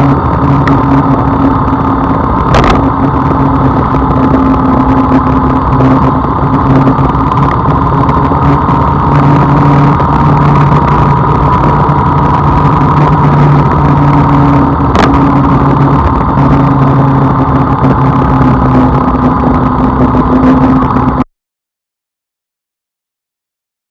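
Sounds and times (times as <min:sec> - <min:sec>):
vehicle engine droning: 0:00.0 - 0:21.3.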